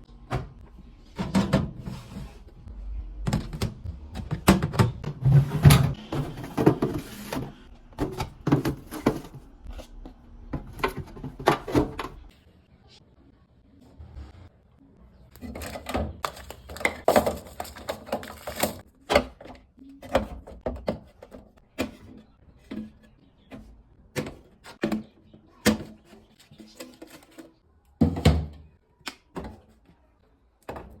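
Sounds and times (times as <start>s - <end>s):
food containers clinking and clunking: 0.2s - 2.6s, 3.2s - 12.3s, 15.2s - 29.9s.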